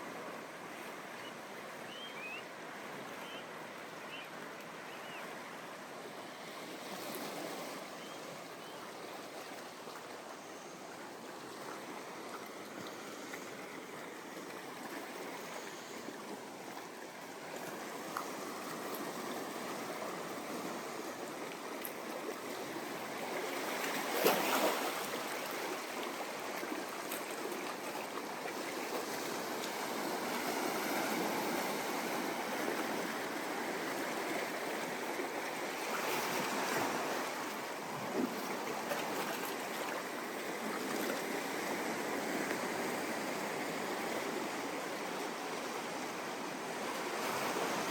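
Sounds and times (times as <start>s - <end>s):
ocean surf washing on sand: 2.5s - 47.9s.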